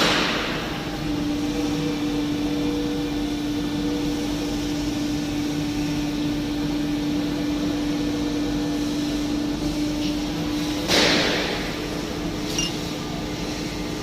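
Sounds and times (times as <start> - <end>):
bending machine humming: 0.0 - 14.0.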